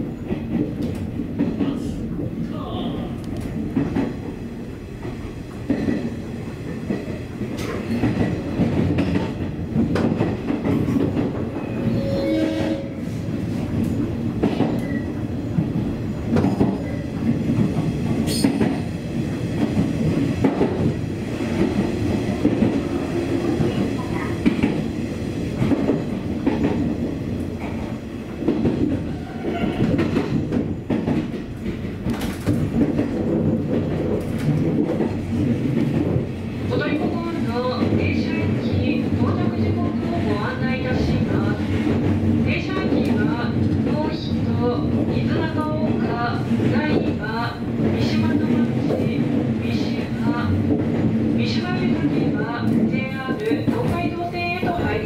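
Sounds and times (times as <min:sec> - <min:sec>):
train running gear rumbling: 0:00.0 - 0:55.0.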